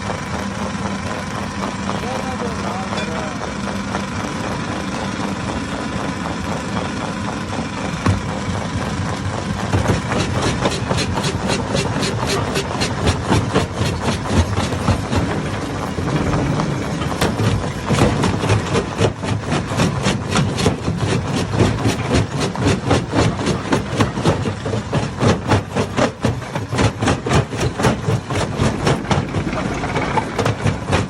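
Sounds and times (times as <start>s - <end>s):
crusher engine droning: 0.0s - 31.0s.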